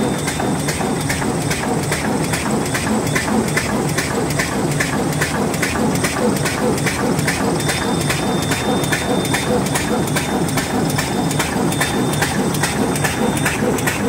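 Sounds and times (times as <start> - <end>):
machine clattering: 0.0 - 14.0.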